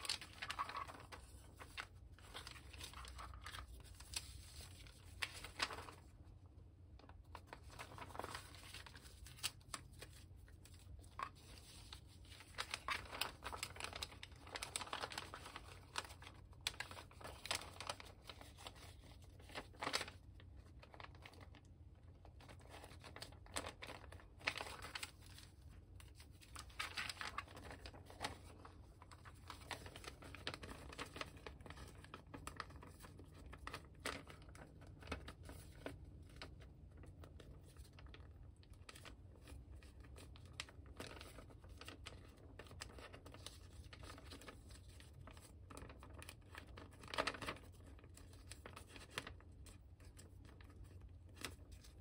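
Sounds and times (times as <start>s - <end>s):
paper rustling and crinkling: 0.0s - 52.0s.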